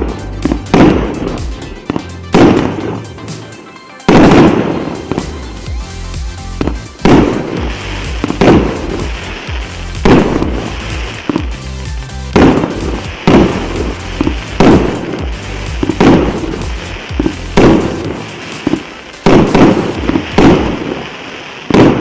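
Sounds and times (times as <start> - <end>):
background music with bass: 0.0 - 21.1
firework bursts: 0.0 - 22.0
firework crackling: 0.0 - 22.0.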